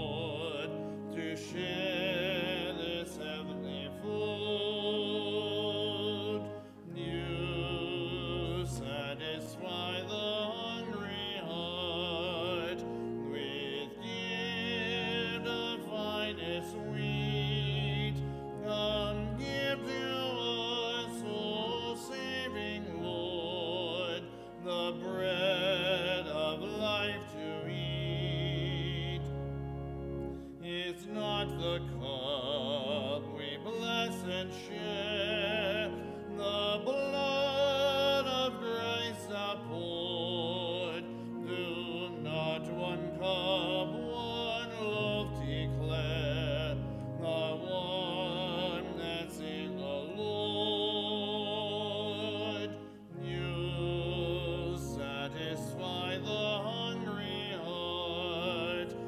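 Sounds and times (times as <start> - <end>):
solo voice singing a hymn: 0.0 - 59.0
sustained instrumental accompaniment: 0.0 - 59.0.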